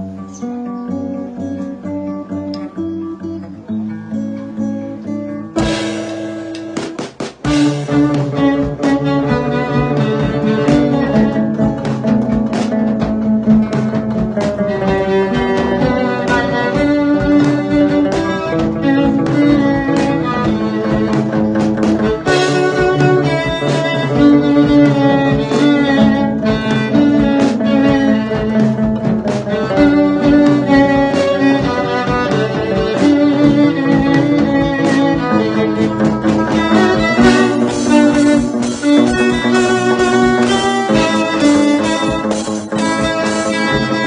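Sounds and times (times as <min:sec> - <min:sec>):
bowed strings melody: 0:00.0 - 0:44.0
guitar chords: 0:00.0 - 0:44.0
low beat: 0:00.0 - 0:44.0.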